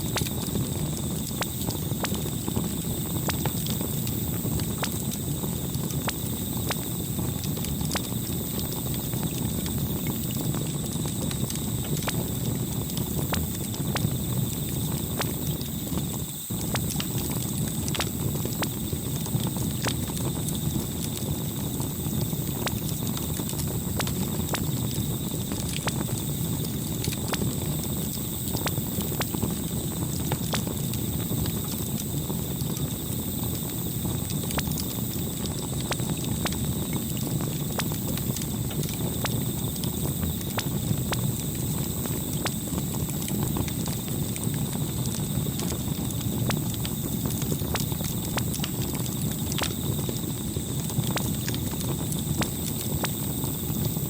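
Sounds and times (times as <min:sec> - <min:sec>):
burning wood crackling and popping: 0:00.0 - 0:54.0
low rumble of flame: 0:00.0 - 0:54.0.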